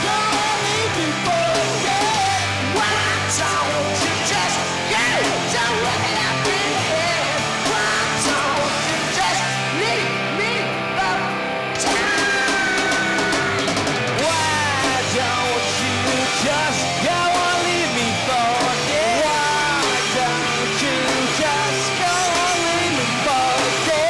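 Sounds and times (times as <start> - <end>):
distorted electric guitar: 0.0 - 24.0
drums and cymbals: 0.0 - 24.0
man singing lead vocals: 0.0 - 24.0.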